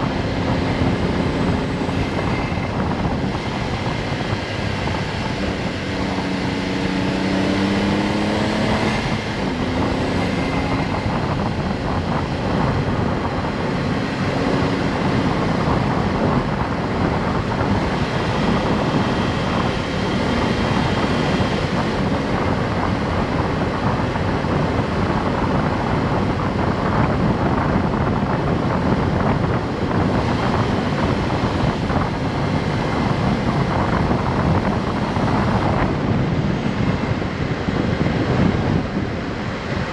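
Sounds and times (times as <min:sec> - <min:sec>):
car engine pulling: 0:00.0 - 0:39.9
road and wind noise: 0:00.0 - 0:39.9.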